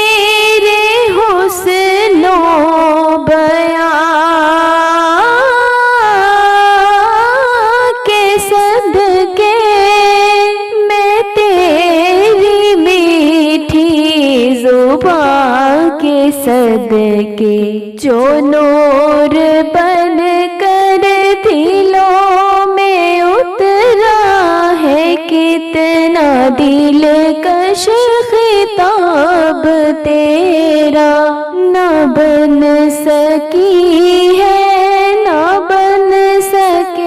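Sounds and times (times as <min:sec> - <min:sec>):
person singing wordless melody: 0:00.0 - 0:37.0.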